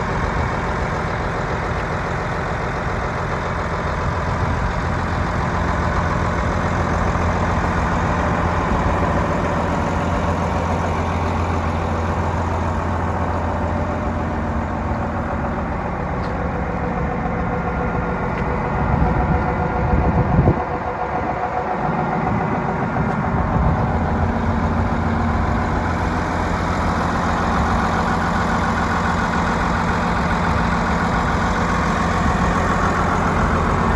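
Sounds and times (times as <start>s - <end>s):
bulldozer diesel engine idling: 0.0s - 33.9s.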